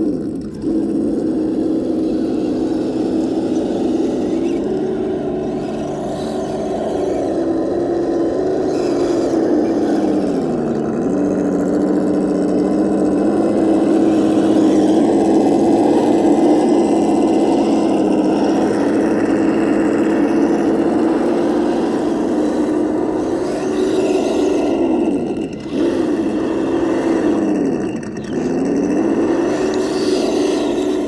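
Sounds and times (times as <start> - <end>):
toy vehicle drive whine: 0.0 - 31.0.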